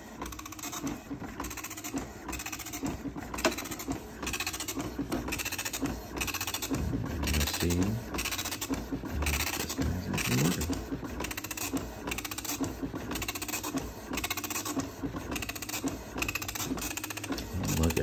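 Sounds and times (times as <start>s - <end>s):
dot-matrix printer printing: 0.0s - 18.0s
paper advancing: 0.0s - 18.0s.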